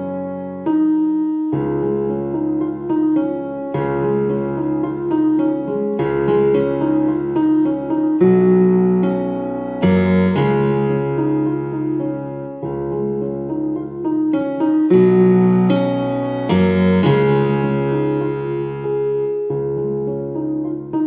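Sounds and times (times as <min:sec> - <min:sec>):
electric piano music: 0:00.0 - 0:21.0.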